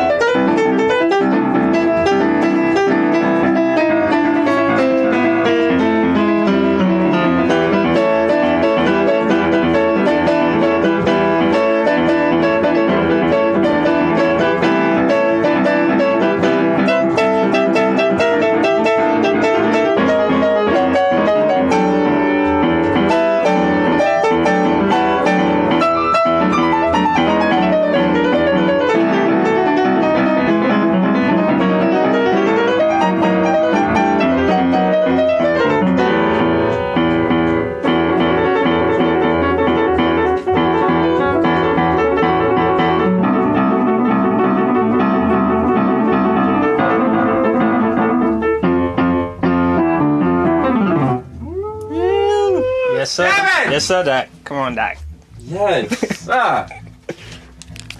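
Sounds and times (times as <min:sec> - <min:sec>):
jazz piano solo: 0:00.0 - 0:52.7.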